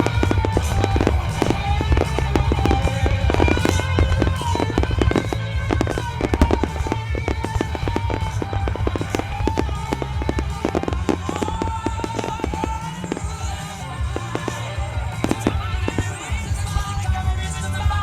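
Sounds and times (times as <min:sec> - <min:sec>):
continuous low rumble: 0:00.0 - 0:18.0
fireworks bursting with bangs and crackles: 0:00.0 - 0:18.0
music playing: 0:00.0 - 0:18.0.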